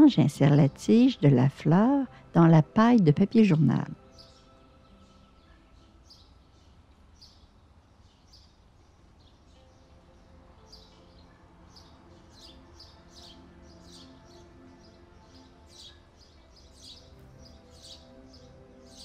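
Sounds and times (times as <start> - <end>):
birds chirping: 0.0 - 19.0
soft background music: 0.0 - 19.0.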